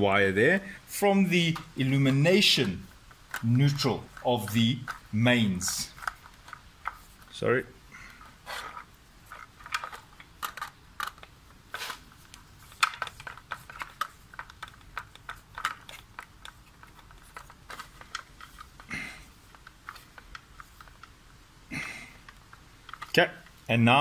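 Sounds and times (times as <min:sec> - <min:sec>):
screwdriver clicking and scraping: 0:01.5 - 0:07.4, 0:08.2 - 0:21.2, 0:22.2 - 0:23.6.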